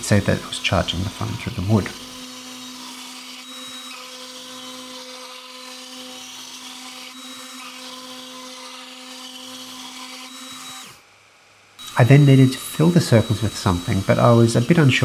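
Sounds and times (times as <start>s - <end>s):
router spindle whining: 0.0s - 11.1s, 11.8s - 15.0s.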